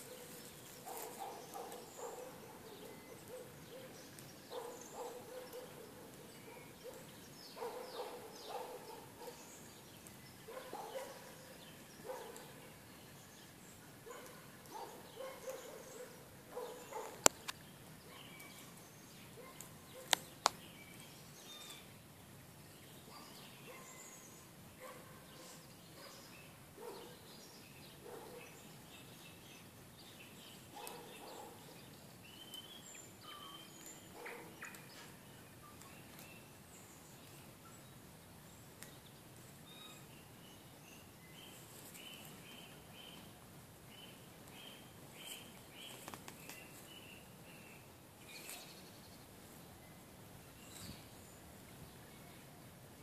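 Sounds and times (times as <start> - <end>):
distant small birds chirping: 0.0 - 53.0.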